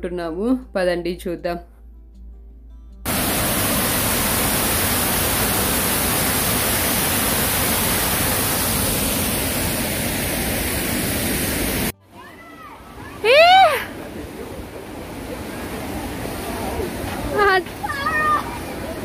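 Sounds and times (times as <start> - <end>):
waterfall rushing: 3.1 - 19.0.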